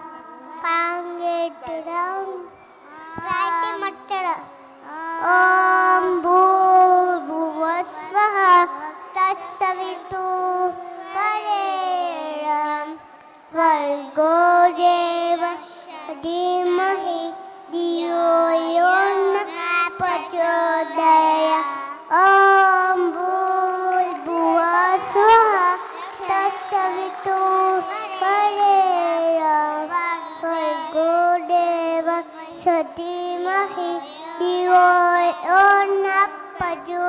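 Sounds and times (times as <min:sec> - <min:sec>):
young children singing in unison: 0:00.0 - 0:37.0.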